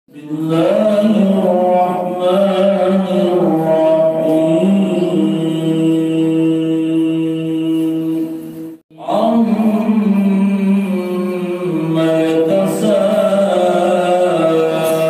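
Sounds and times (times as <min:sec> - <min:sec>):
man reciting melodically: 0:00.1 - 0:08.3, 0:08.9 - 0:15.0.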